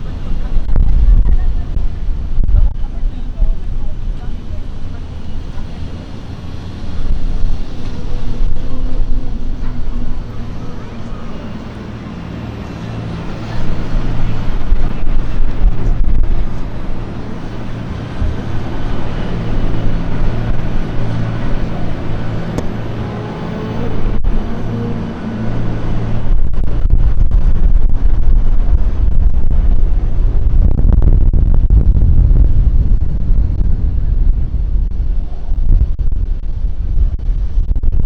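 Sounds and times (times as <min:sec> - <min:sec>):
vehicle engine hum: 0:00.0 - 0:38.0
wind buffeting microphone: 0:00.0 - 0:38.0.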